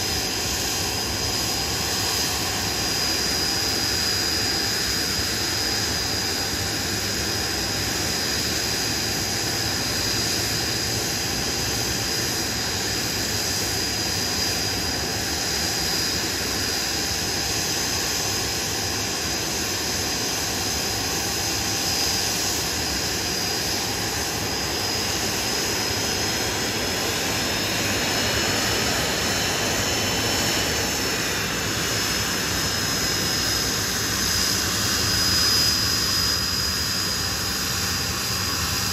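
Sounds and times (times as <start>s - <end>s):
jet engines roaring with whine: 0.0s - 38.9s.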